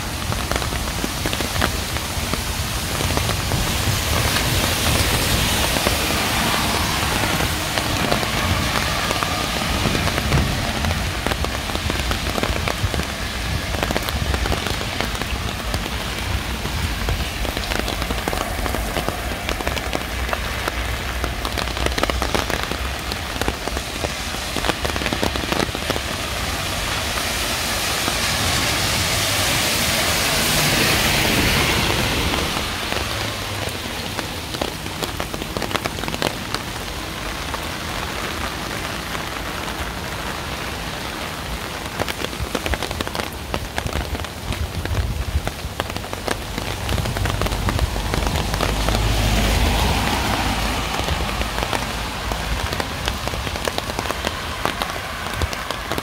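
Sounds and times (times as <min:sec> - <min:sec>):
steady rain with drop hits: 0:00.0 - 0:56.0.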